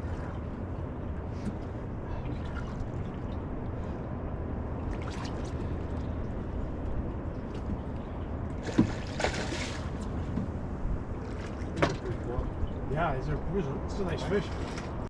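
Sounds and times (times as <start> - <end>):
steady low rumble: 0.0 - 15.0
water lapping around boat: 0.0 - 15.0.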